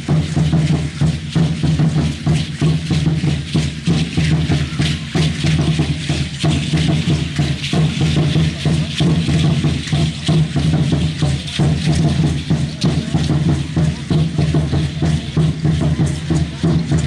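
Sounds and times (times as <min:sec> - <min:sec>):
drum beaten fast: 0:00.0 - 0:17.0
seed-pod ankle rattles shaking: 0:00.0 - 0:17.0.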